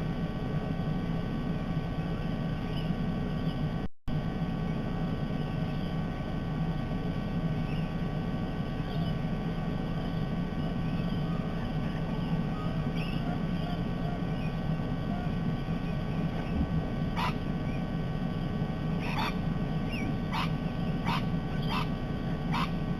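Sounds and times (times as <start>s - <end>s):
faint electronic whine: 0.0s - 22.9s
low outdoor rumble: 0.0s - 22.9s
faint bird chirps: 1.8s - 3.8s, 4.6s - 8.0s, 8.6s - 22.8s.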